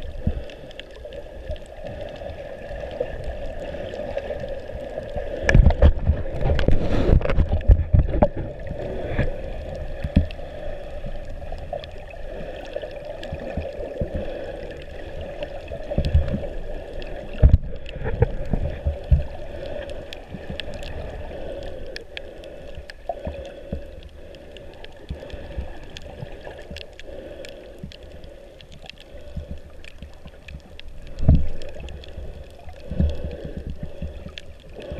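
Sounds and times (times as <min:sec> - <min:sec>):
faint clicks: 0:00.0 - 0:34.9
muffled underwater wash: 0:00.0 - 0:34.9.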